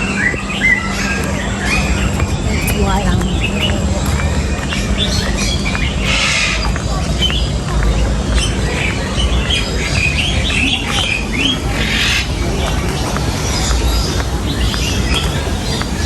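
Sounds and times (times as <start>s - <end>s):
birds chirping: 0.0s - 16.0s
harsh bird calls: 0.0s - 16.0s
steady low rumble: 0.0s - 16.0s.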